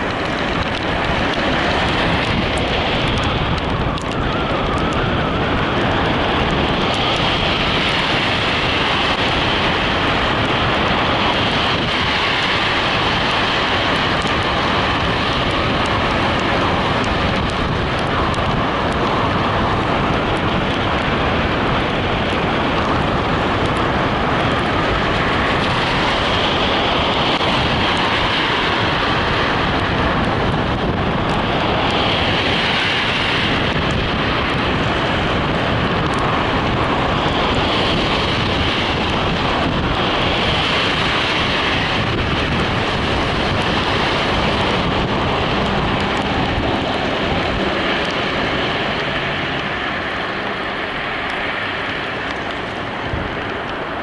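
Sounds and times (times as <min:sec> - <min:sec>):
road noise from vehicle: 0:00.0 - 0:54.0
wind rushing: 0:00.0 - 0:54.0.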